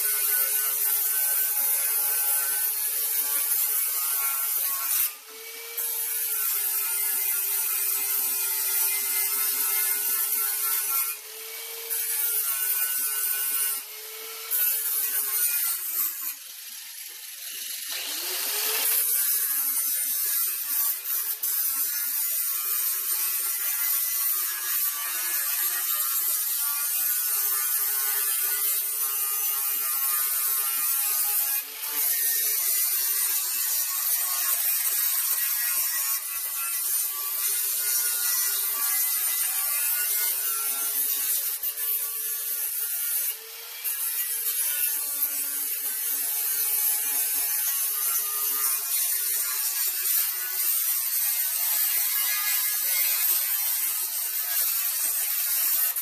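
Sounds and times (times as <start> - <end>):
angle grinder whining on metal: 0.0 - 56.0.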